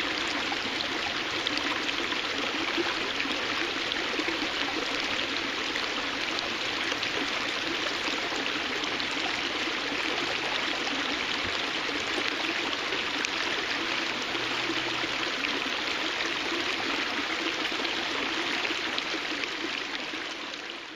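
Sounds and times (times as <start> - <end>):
water rushing over stones: 0.0 - 20.9.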